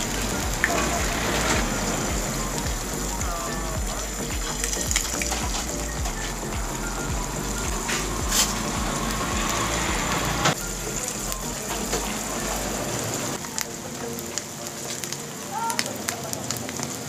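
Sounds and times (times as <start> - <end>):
eggs sizzling in oil: 0.0 - 17.0.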